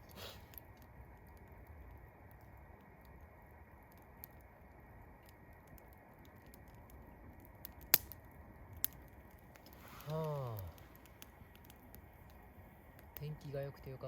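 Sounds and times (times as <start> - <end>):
sharp fire pops: 0.0 - 13.9
campfire crackling: 0.0 - 14.0
low steady hiss: 0.0 - 14.0.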